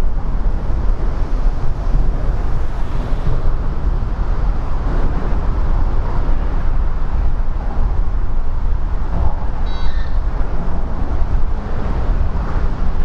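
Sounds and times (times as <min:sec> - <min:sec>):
rumble of highway traffic: 0:00.0 - 0:13.0.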